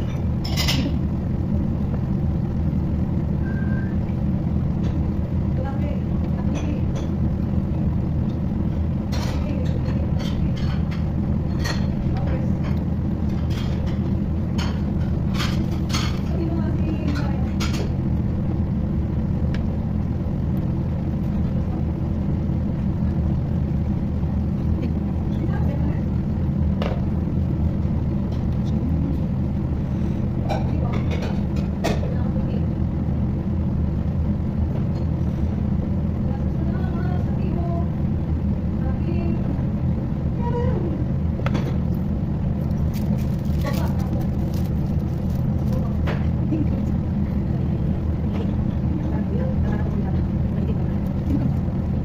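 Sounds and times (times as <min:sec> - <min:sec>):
steady low hum: 0:00.0 - 0:52.0
steady low rumble: 0:00.0 - 0:52.0.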